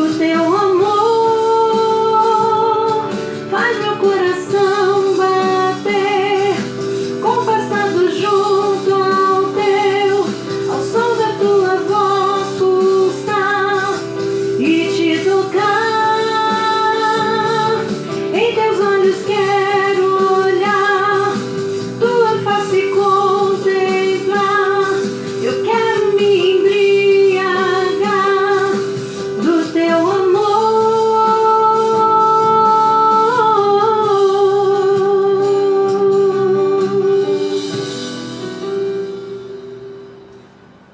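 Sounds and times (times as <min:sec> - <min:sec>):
woman singing a worship song: 0:00.0 - 0:38.0
instrumental accompaniment: 0:00.0 - 0:40.9.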